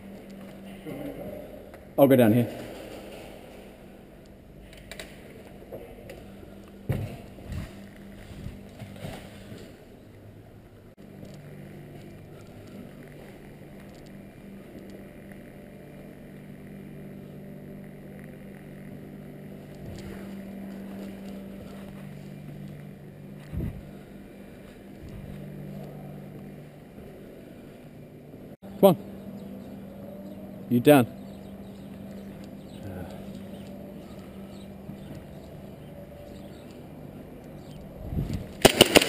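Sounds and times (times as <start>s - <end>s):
low motor hum: 0.0s - 39.0s.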